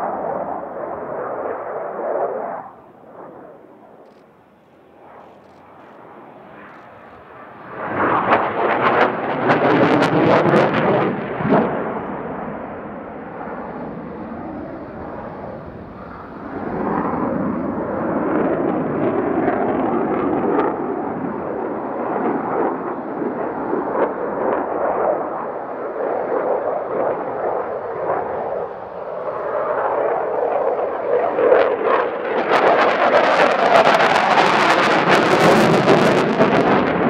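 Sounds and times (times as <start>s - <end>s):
jet engines roaring overhead: 0.0s - 37.0s
loud jet crackling: 0.0s - 37.0s.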